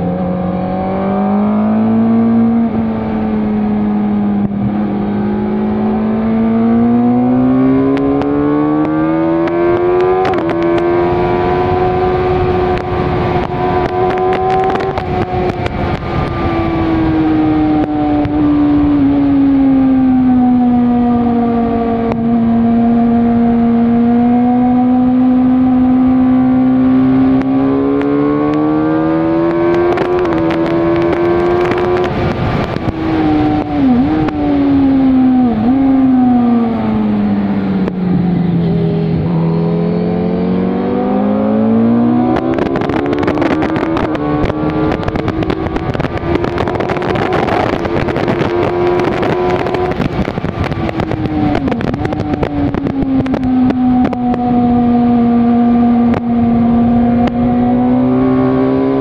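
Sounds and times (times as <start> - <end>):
motorcycle engine at speed: 0.0 - 59.0
rushing wind: 0.0 - 59.0.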